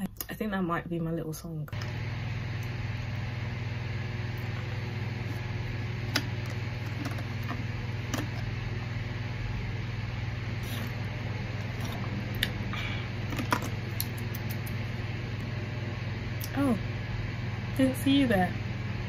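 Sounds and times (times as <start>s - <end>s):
low mechanical hum with hiss: 0.0s - 19.0s.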